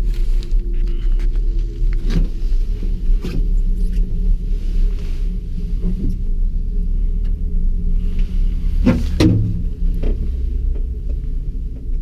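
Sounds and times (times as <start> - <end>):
creaking clatter: 0.0 - 12.0
gondola cabin rumble and hum: 0.0 - 12.0.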